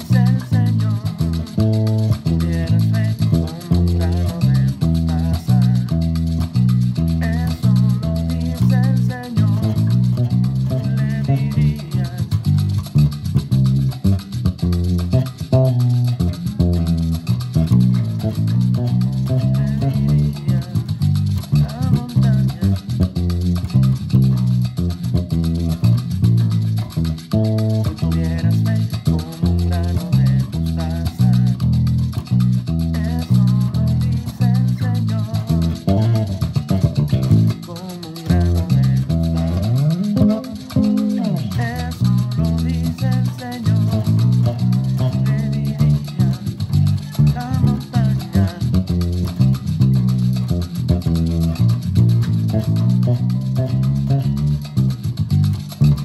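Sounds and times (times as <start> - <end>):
electric bass plucked fingerstyle: 0.0 - 56.0.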